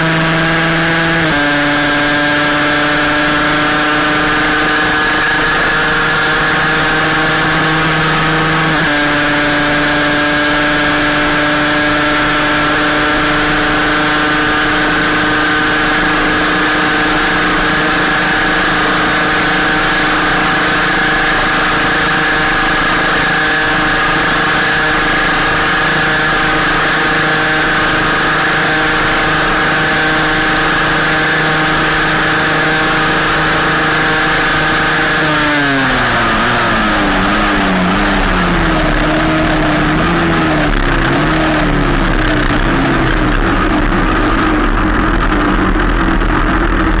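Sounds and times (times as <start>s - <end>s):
motorcycle engine at high revs: 0.0s - 47.0s.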